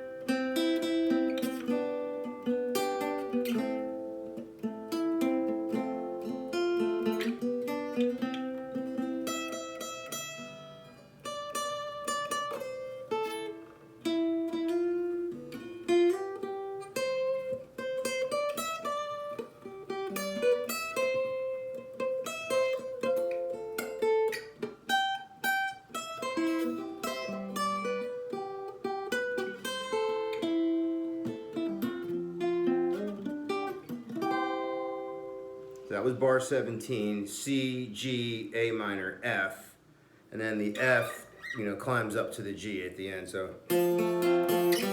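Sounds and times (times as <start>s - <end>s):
guitar picking chords: 0.0s - 44.9s.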